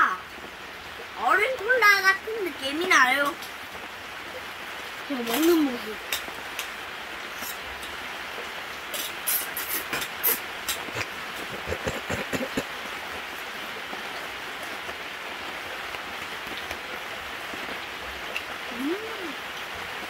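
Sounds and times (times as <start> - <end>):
rain falling on a tarp: 0.0 - 20.0.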